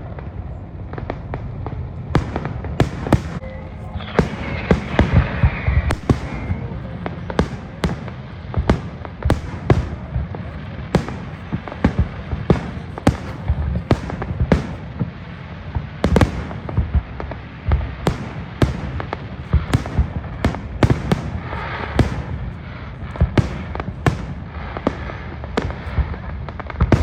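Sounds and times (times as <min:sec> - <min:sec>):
crackling hiss: 0:00.0 - 0:27.0
fireworks sharp bangs: 0:00.0 - 0:27.0.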